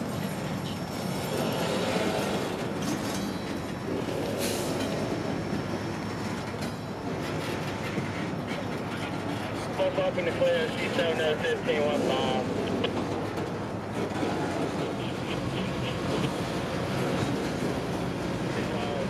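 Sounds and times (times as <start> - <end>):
freight train rolling on rails: 0.0 - 19.0.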